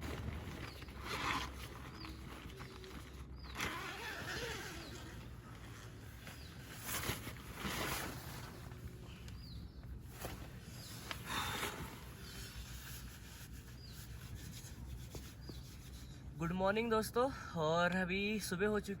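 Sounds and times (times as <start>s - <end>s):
soft rustling: 0.0s - 16.3s.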